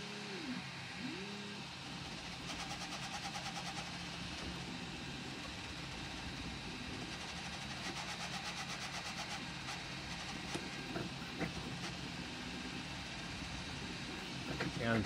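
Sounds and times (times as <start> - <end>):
print head pulses: 0.0 - 15.0
printer humming: 0.0 - 15.0.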